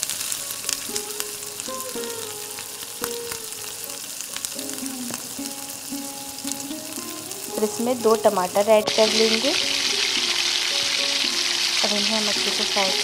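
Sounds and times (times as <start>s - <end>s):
onion sizzling in hot oil: 0.0s - 13.0s.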